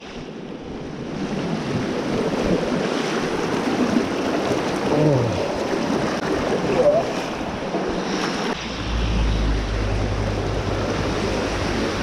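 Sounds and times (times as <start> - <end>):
creek running: 0.7 - 12.0.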